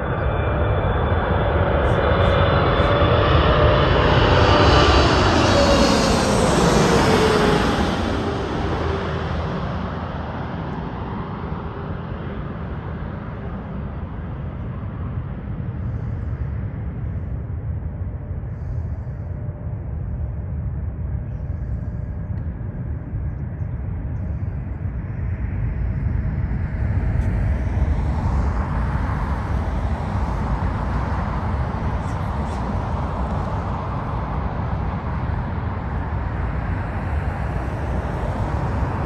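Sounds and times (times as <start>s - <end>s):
jet engine whine: 0.0s - 39.0s
jet engines rumbling: 0.0s - 39.0s.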